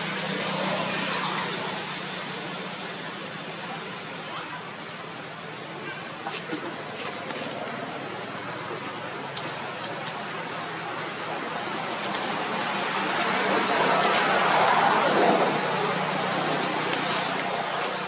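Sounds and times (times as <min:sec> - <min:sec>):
broad outdoor hiss: 0:00.0 - 0:18.0
high insect drone: 0:00.0 - 0:18.0.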